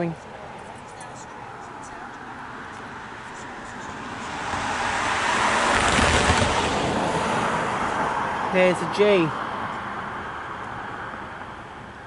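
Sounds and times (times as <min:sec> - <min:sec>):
car driving past: 0:01.4 - 0:11.8.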